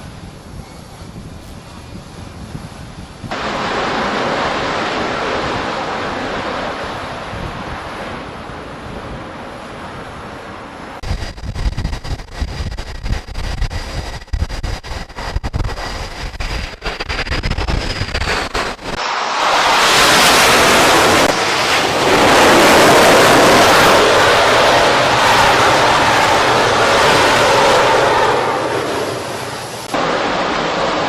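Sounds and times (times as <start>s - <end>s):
wind and sea rushing: 0.0s - 31.0s
wind buffeting microphone: 0.0s - 31.0s.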